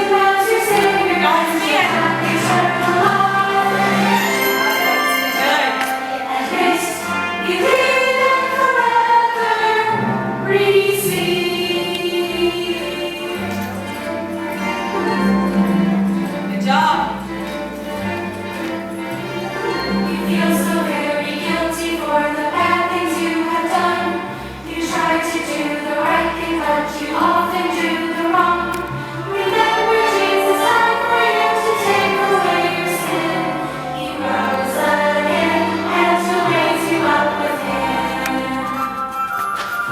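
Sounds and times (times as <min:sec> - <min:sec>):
choir singing with accompaniment: 0:00.0 - 0:39.9.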